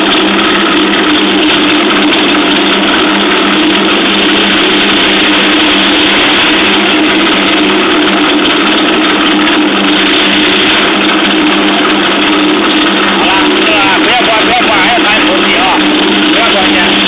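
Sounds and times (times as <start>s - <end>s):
low hum: 0.0s - 17.0s
swaging machine drone: 0.0s - 17.0s.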